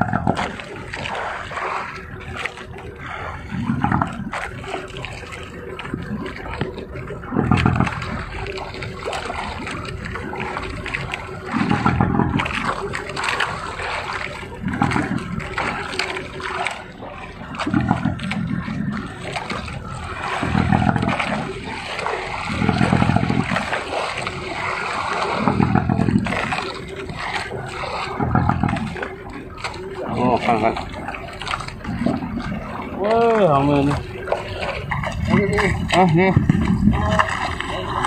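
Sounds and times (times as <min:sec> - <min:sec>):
sea water splashing against boat: 0:00.0 - 0:38.0.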